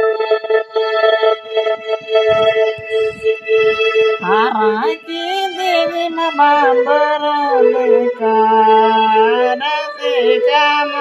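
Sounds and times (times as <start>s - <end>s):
electronic keyboard sustained note: 0.0s - 11.0s.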